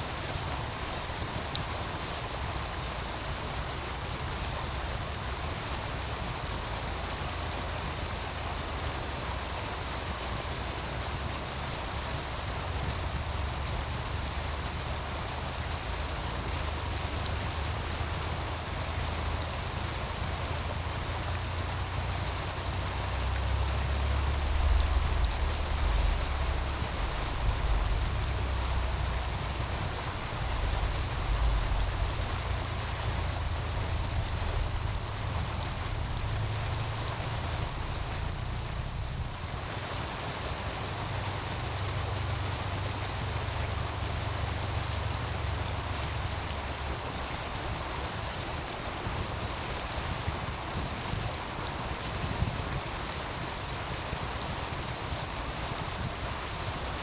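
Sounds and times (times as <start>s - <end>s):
stream rushing: 0.0s - 57.0s
wind rumble on microphone: 0.0s - 57.0s
wood fire crackling: 0.0s - 57.0s.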